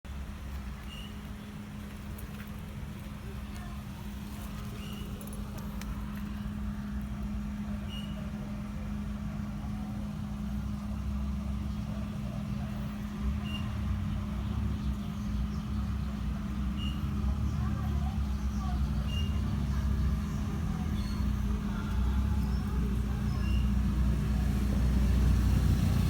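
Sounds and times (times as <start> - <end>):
car road rumble: 0.0 - 26.0
constant hum: 0.1 - 26.0.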